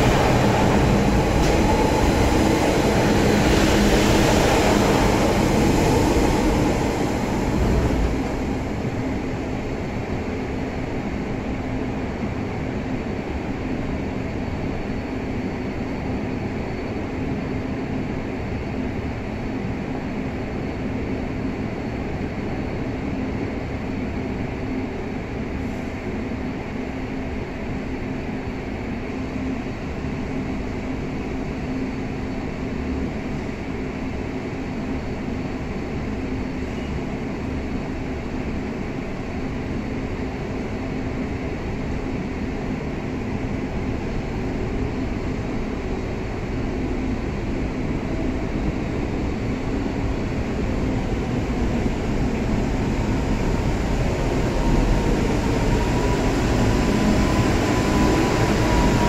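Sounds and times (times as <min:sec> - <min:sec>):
train rumbling on track: 0:00.0 - 0:59.0.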